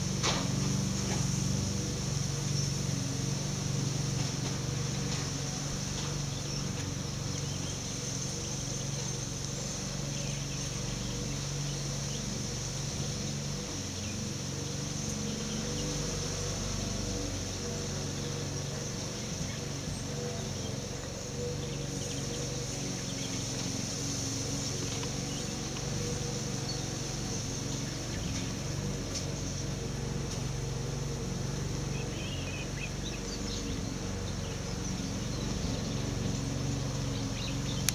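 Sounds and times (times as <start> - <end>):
high hiss: 0.0 - 31.5.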